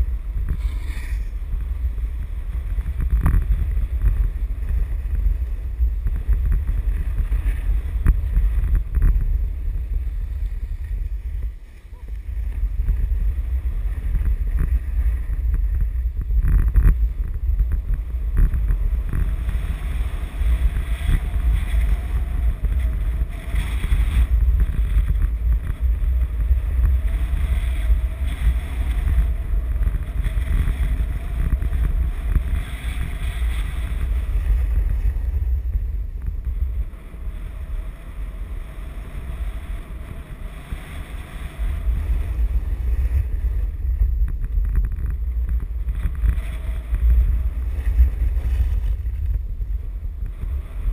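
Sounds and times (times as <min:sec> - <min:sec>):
skis sliding on snow: 0:00.0 - 0:50.9
wind rumbling over microphone: 0:00.0 - 0:50.9.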